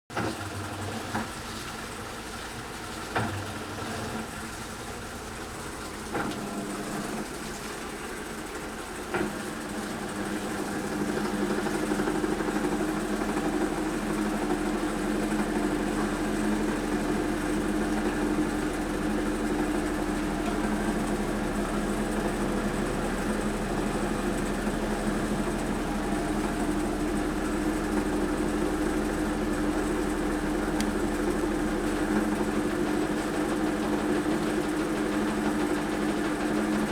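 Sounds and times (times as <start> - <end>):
washing machine drum spinning hum: 0.1 - 36.9.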